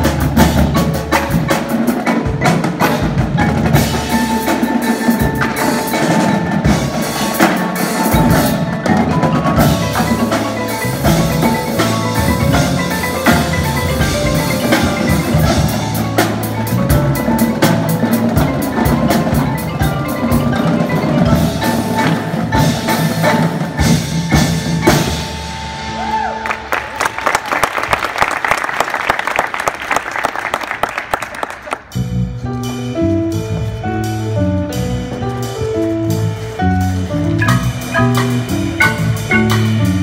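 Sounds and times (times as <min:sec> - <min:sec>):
marimbas and mallet percussion: 0:00.0 - 0:26.3, 0:31.9 - 0:40.0
bass notes: 0:00.0 - 0:26.7, 0:31.8 - 0:40.0
drums: 0:00.0 - 0:40.0.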